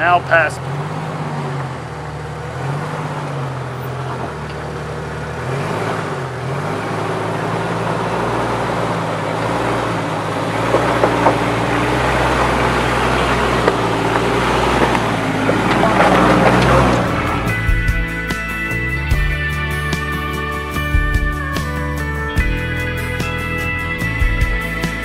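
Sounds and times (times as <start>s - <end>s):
engine revving at low speed: 0.0s - 25.0s.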